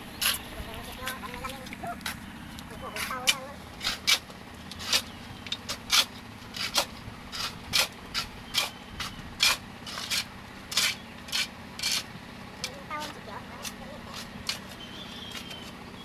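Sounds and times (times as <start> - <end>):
shovels scraping sand and gravel: 0.0 - 15.9
steady low hum: 0.0 - 16.0.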